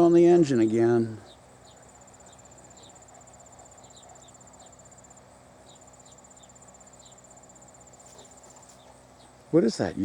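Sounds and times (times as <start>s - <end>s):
insect high-pitched trill: 1.2s - 10.0s.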